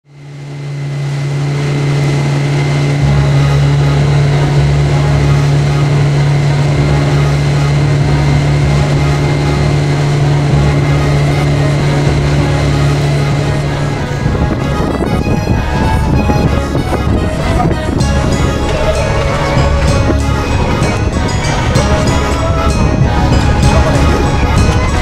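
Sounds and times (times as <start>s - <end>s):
outboard motor drone: 0.0s - 25.0s
deeper rumble: 0.1s - 25.0s.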